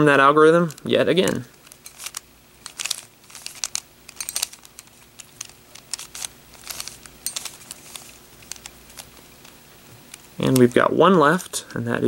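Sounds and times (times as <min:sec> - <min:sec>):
puzzle cube turns clacking: 0:00.6 - 0:10.8.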